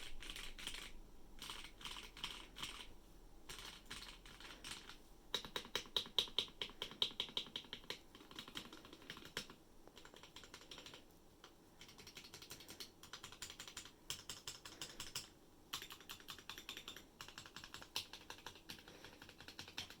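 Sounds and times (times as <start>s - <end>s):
typing on mechanical keyboard: 0.0s - 2.9s, 3.5s - 11.1s, 11.8s - 20.0s.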